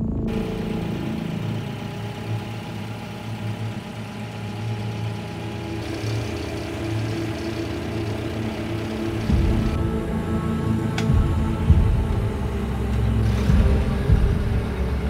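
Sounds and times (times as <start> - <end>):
forklift engine idling: 0.2 - 15.0.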